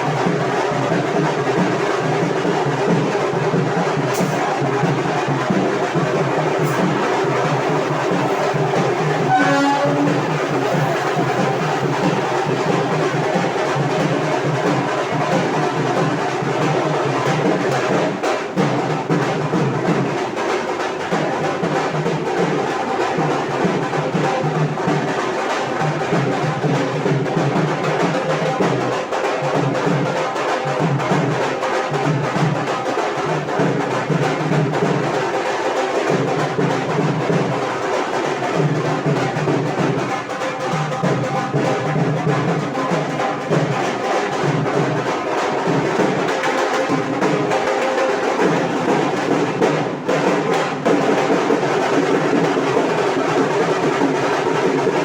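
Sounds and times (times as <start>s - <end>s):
drums and percussion music: 0.0s - 55.0s.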